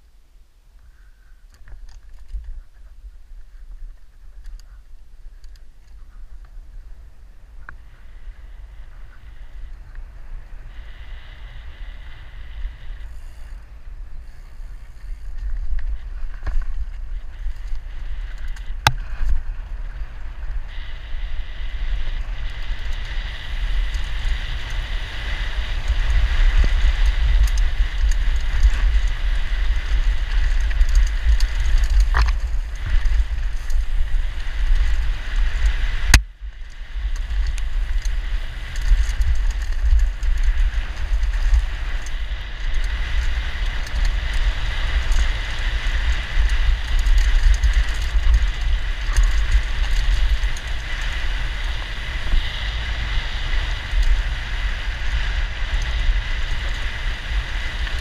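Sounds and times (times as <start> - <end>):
wind rushing on microphone: 1.3 - 58.0.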